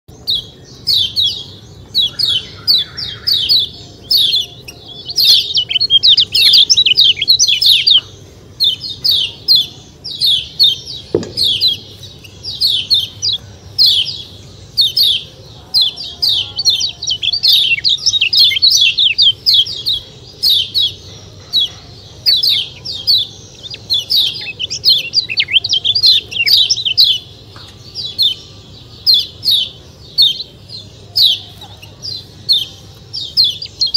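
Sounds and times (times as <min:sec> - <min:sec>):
small bird chirping: 0:00.1 - 0:33.9.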